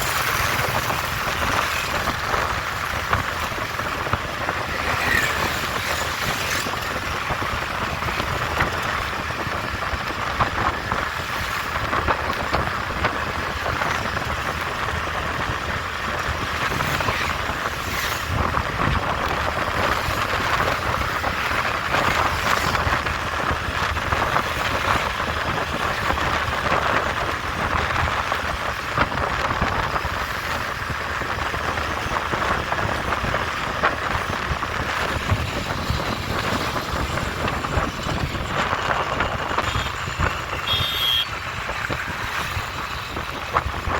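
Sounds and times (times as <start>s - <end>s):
passing vehicles: 0.0s - 43.9s
road and wind noise: 0.0s - 43.9s.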